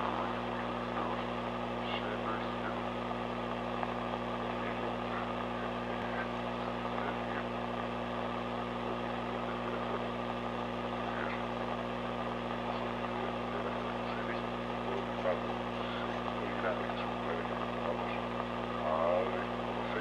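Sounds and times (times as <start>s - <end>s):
low droning hum: 0.0s - 20.0s.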